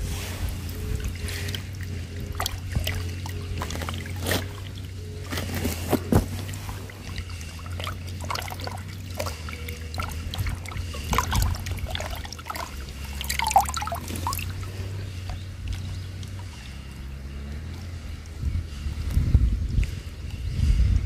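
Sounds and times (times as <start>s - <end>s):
steady low rumble: 0.0s - 21.0s
water trickling over rocks: 0.2s - 18.4s.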